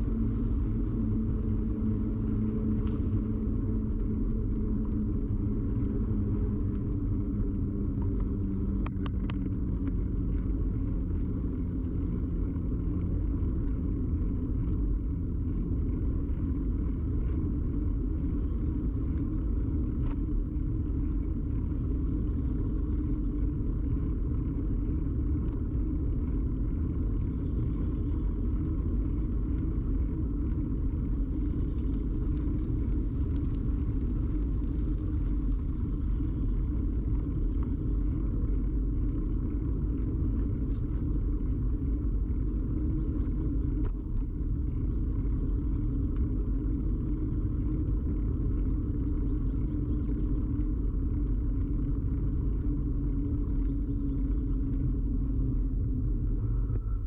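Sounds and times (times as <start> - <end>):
bicycle ride rumble: 0.0 - 57.0.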